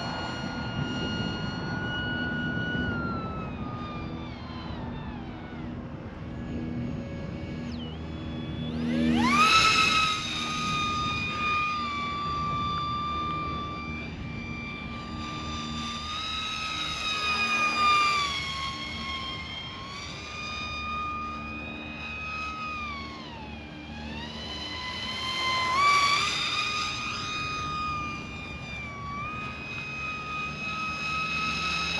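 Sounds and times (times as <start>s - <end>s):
model plane electric motor whining: 0.0s - 31.9s.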